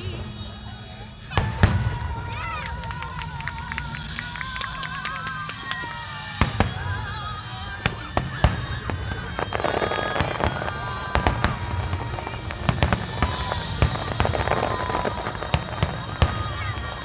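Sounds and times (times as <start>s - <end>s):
fireworks bangs and cracks: 1.3s - 17.0s.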